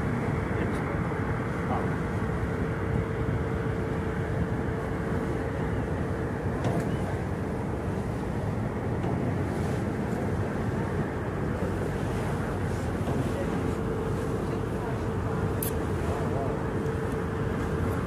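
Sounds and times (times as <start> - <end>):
ferry engine rumble: 0.0 - 18.0.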